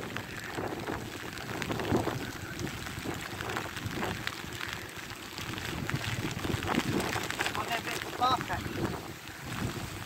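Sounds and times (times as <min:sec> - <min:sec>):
heavy rain falling: 0:00.0 - 0:10.0
single raindrops ticking: 0:00.0 - 0:10.0.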